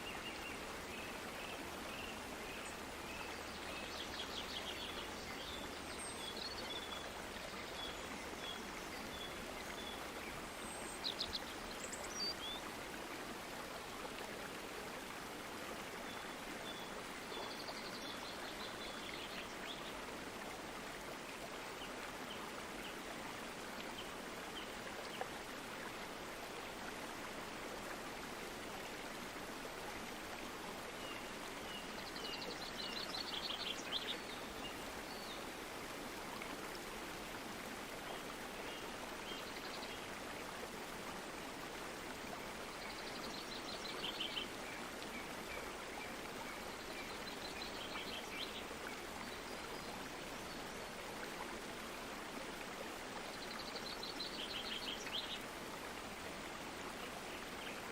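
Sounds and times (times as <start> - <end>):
stream water rushing: 0.0 - 57.9.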